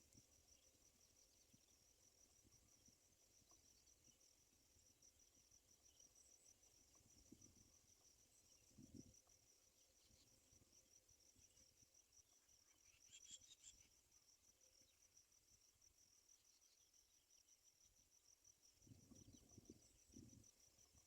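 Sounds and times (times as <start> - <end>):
insect chirping: 0.0 - 21.0.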